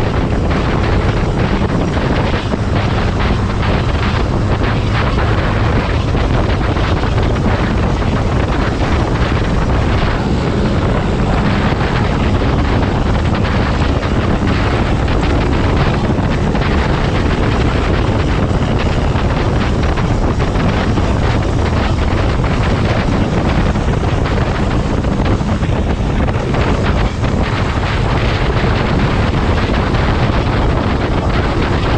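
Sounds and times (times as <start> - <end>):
motorcycle engine running: 0.0 - 31.9
wind rushing over microphone: 0.0 - 31.9.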